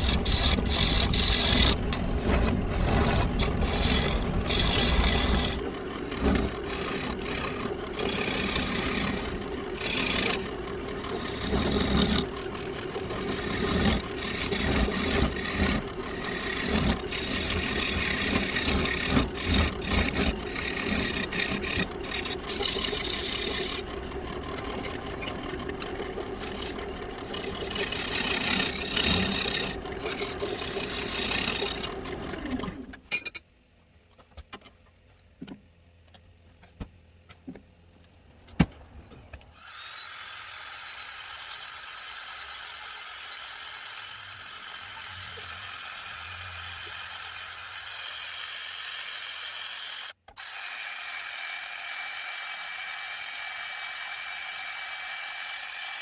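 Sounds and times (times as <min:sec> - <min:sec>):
wood lathe motor hum: 0:00.0 - 0:33.0, 0:39.6 - 0:56.0
tool scraping spinning wood: 0:00.0 - 0:33.2, 0:36.2 - 0:56.0.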